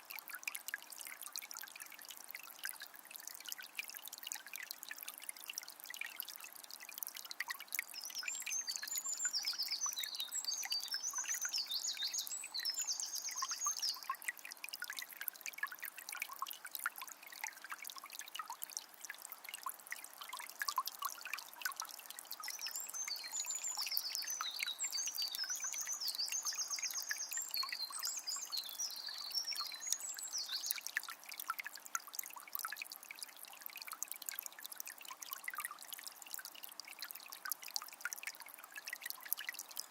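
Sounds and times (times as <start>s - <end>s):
small spring trickling and splashing: 0.0s - 39.9s
water drips and plinks: 0.0s - 39.9s.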